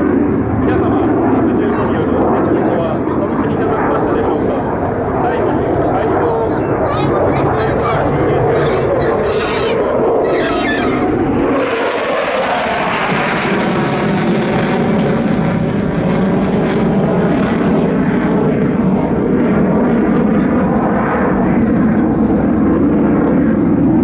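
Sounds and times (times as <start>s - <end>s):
fighter jet roar: 0.0s - 24.0s.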